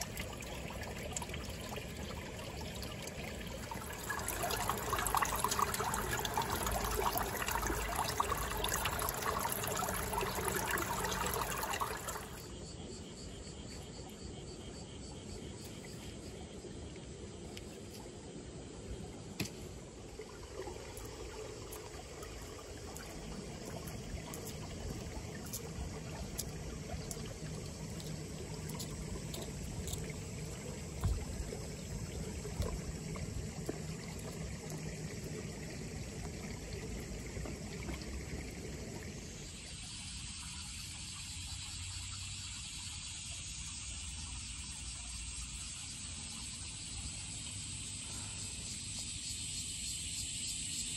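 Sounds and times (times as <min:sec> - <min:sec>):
water trickling in ditch: 0:00.0 - 0:50.9.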